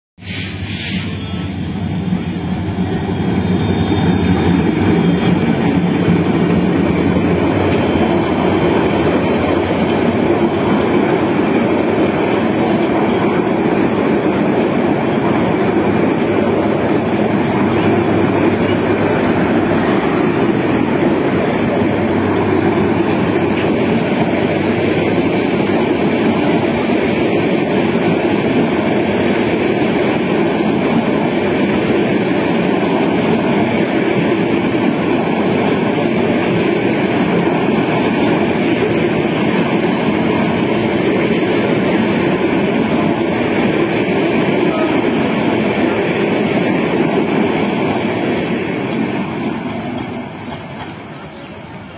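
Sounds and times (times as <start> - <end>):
train wheels rumbling on rails: 0.2 - 51.9.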